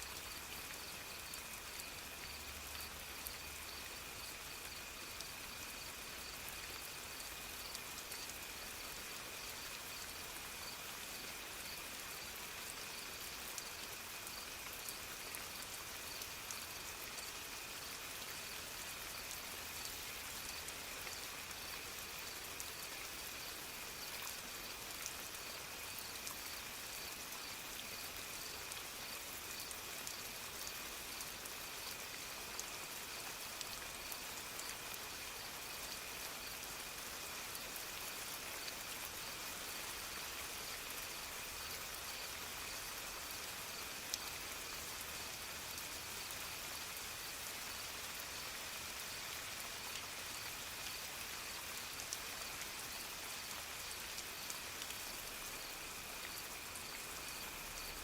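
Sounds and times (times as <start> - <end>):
soft rain: 0.0 - 58.0.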